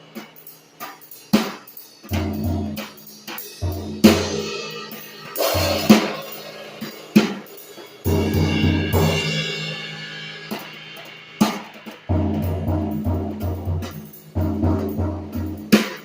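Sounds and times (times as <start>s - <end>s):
cymbal wash ringing: 0.0s - 16.0s
drum kit with cymbals: 0.0s - 16.0s
music with bass line: 2.1s - 16.0s.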